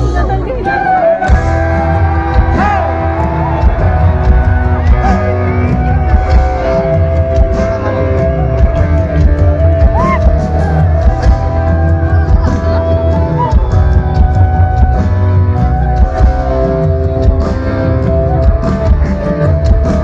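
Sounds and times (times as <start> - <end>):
loud rock music over speakers: 0.0 - 20.0.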